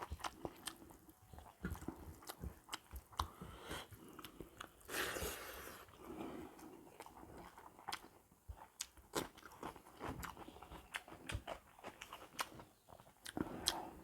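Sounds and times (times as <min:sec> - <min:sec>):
person chewing and crunching food: 0:00.0 - 0:14.0.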